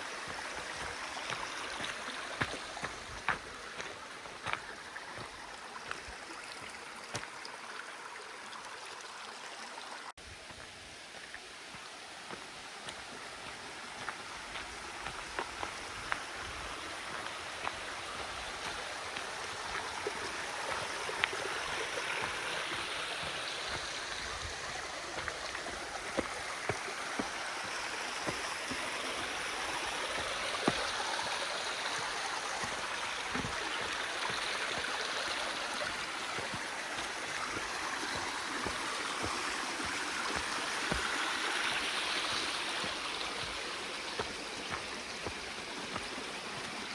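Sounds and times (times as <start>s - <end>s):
stream flowing: 0.0s - 46.9s.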